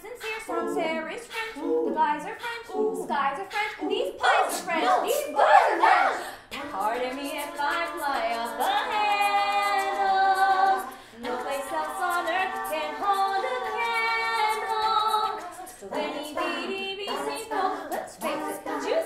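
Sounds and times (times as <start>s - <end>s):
women singing a cappella: 0.0s - 19.0s.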